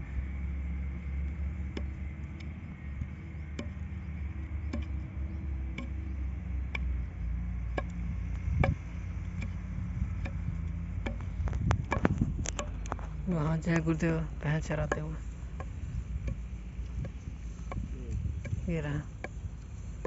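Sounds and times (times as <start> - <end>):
distant truck engines droning: 0.0 - 20.0.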